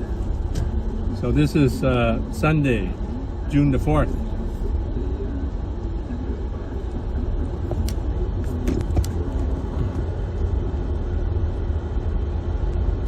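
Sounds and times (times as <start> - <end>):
low rumble of vehicles: 0.0 - 13.0.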